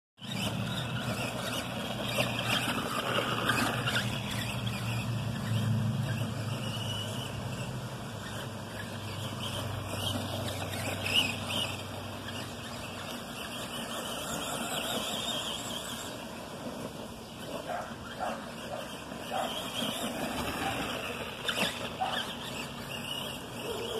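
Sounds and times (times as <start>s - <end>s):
toy truck electric motor whining: 0.2s - 23.9s.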